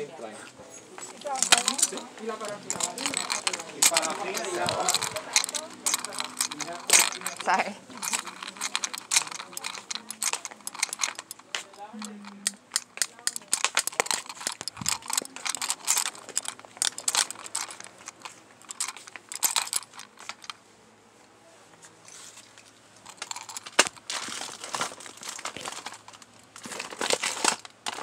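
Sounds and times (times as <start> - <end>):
plastic packaging crinkling: 1.0 - 20.6, 23.0 - 28.0.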